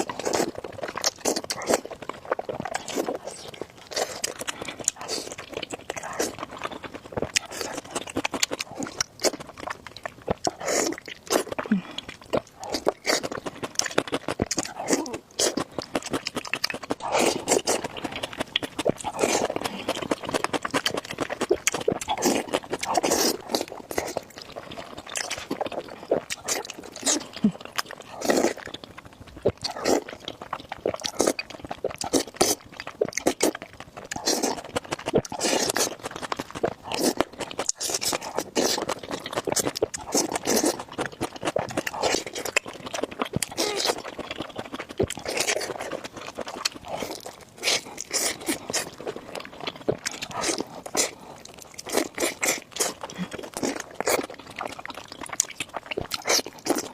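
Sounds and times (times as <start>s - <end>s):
person eating crunchy food: 0.0s - 56.9s.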